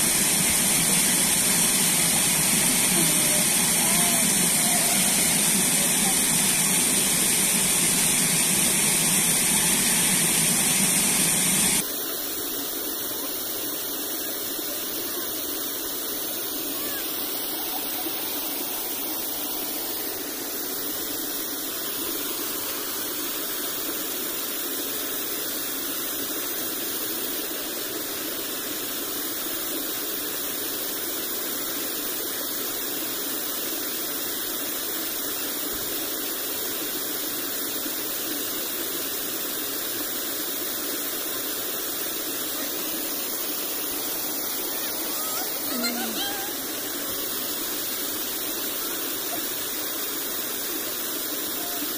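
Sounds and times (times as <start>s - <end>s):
water rushing over a weir: 0.0s - 51.9s.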